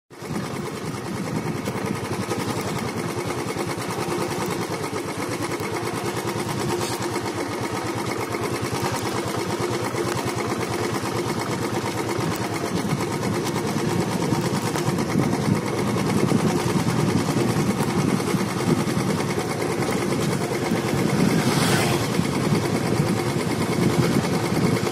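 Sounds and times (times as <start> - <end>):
motorcycle engine exhaust beat: 0.1 - 24.9.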